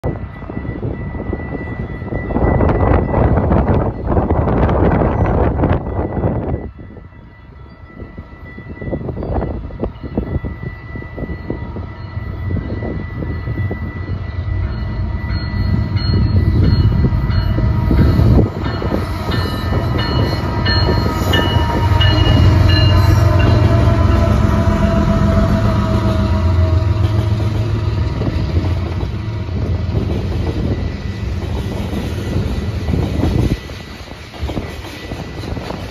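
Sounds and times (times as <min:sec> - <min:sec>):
diesel locomotive engines: 0:00.0 - 0:35.9
freight cars wheel-on-rail noise: 0:00.0 - 0:35.9.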